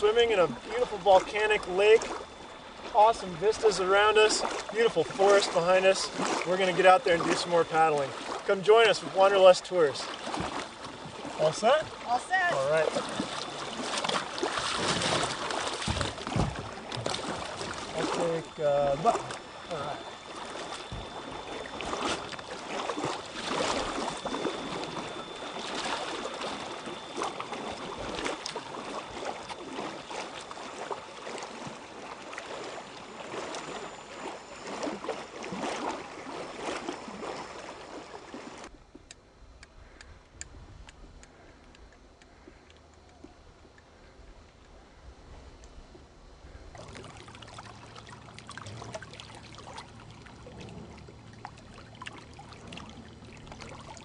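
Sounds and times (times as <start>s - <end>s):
paddle splashing and dripping: 0.0s - 44.8s, 45.6s - 54.0s
faint water lapping: 0.0s - 54.0s.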